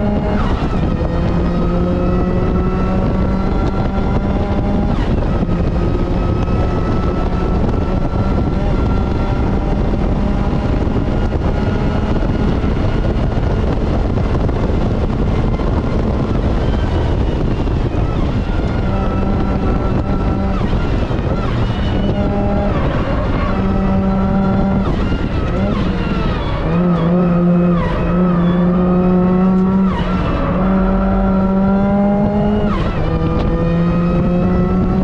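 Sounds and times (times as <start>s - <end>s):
car engine revving high: 0.0s - 35.0s
road and wind rumble: 0.0s - 35.0s.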